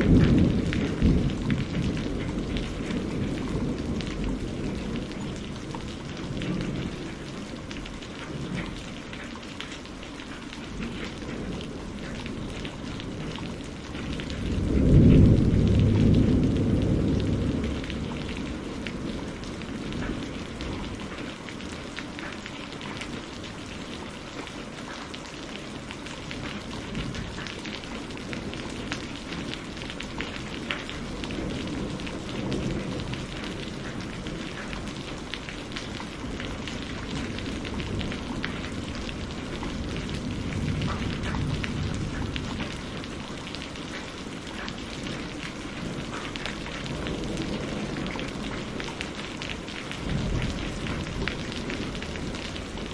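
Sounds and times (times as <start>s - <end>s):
low thunder rumble: 0.0s - 9.2s, 10.8s - 21.8s, 25.6s - 52.9s
heavy rain pattering: 0.0s - 52.9s.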